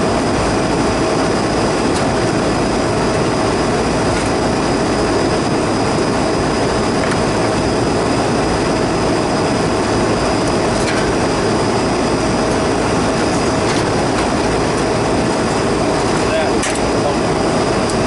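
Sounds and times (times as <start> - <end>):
air-conditioning units running: 0.0 - 18.0
constant hum: 0.0 - 18.0.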